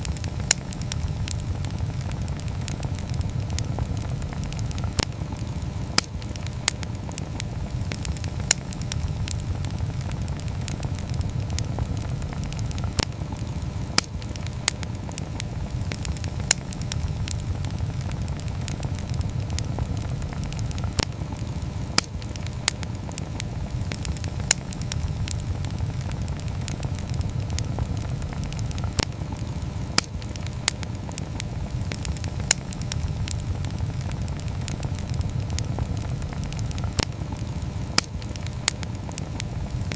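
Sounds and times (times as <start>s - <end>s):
campfire rumbling: 0.0s - 39.9s
wood crackling and popping: 0.0s - 39.9s.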